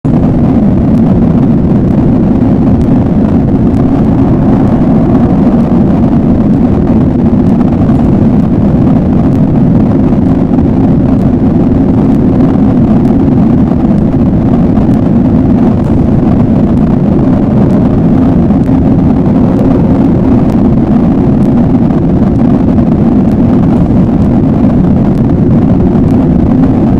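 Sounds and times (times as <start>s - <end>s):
low rumbling drone: 0.0s - 26.9s.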